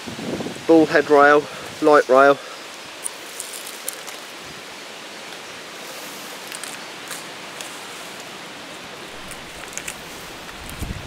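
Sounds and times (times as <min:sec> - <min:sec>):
stream rushing: 0:00.0 - 0:11.0
plants rustling: 0:01.0 - 0:11.0.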